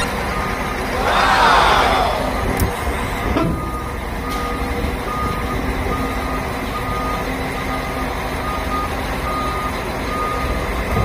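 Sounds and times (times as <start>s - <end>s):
excavator warning alarm beeping: 0.0s - 0.8s, 2.3s - 11.0s
diesel engine running: 0.0s - 11.0s.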